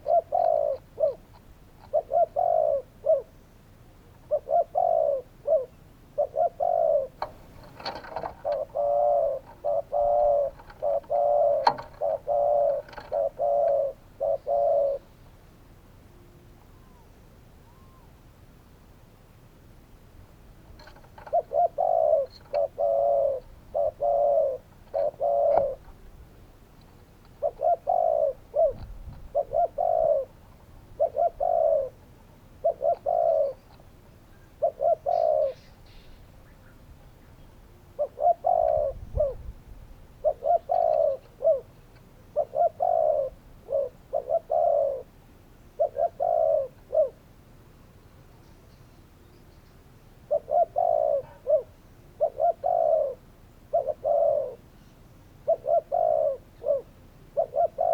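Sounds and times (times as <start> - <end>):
dove cooing: 0.0 - 3.4, 4.1 - 15.3, 16.5 - 18.2, 20.8 - 36.8, 37.7 - 47.4, 50.2 - 57.9.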